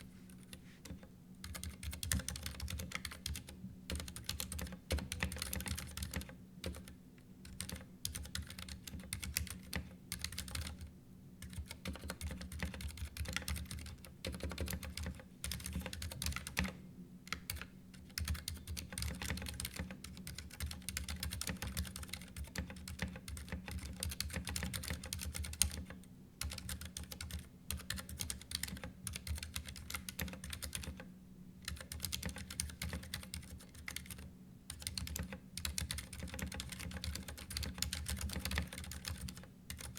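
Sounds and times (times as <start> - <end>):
mechanical keyboard typing: 0.3 - 31.0, 31.7 - 39.9.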